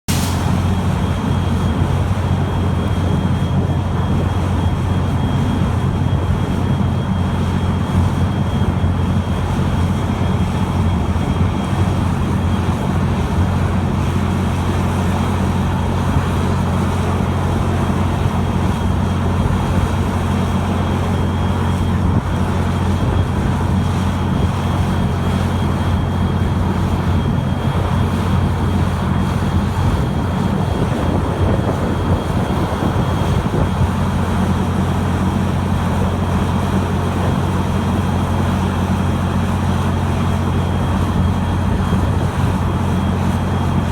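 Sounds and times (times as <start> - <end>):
locomotive deep rumble: 0.1 - 43.9.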